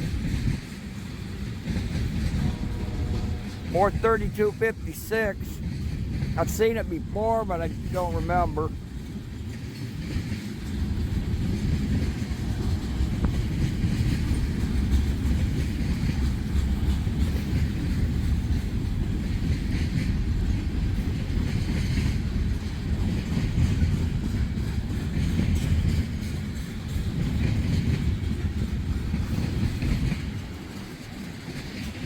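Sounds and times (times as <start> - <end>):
freight train cars rolling: 0.0 - 32.0.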